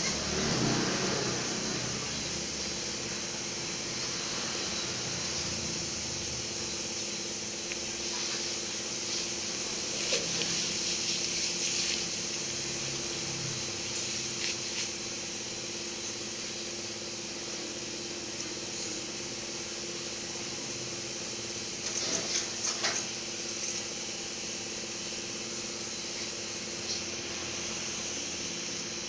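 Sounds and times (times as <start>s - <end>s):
steady hiss: 0.1s - 29.0s.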